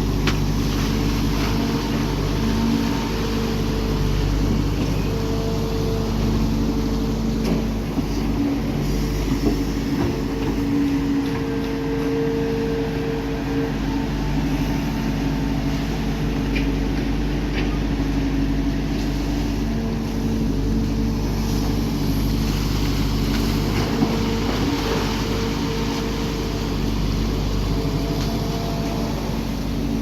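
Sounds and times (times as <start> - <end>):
diesel engine humming: 0.0 - 30.0.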